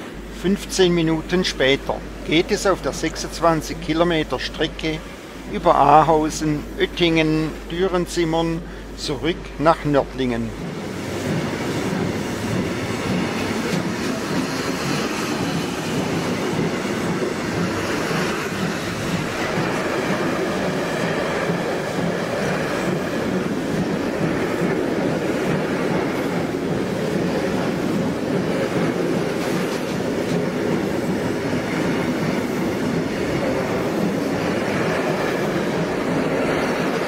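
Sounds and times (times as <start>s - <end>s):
train coach rumbling on rails: 0.0s - 37.0s.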